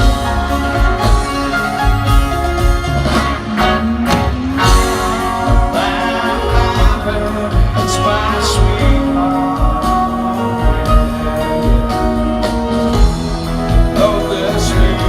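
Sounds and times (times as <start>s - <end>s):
bass: 0.0s - 15.0s
electric guitars: 0.0s - 15.0s
steady drum beat: 0.0s - 15.0s.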